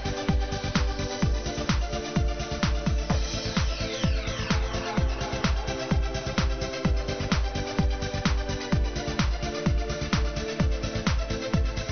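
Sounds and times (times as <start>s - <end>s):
kick drum: 0.0s - 11.9s
synth chords: 0.0s - 11.9s.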